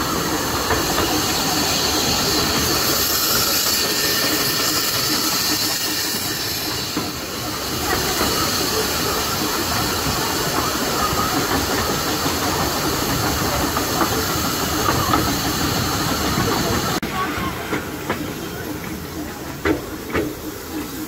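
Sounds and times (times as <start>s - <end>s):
loud steam hiss: 0.0s - 21.0s
train wheels rumbling on rail: 0.0s - 21.0s.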